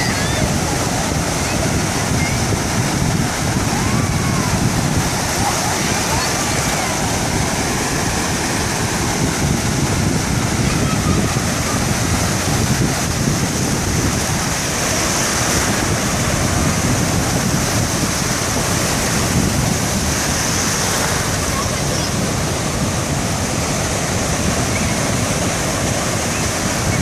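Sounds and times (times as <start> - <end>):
sea waves and surf: 0.0 - 27.0
wind buffeting microphone: 0.0 - 27.0.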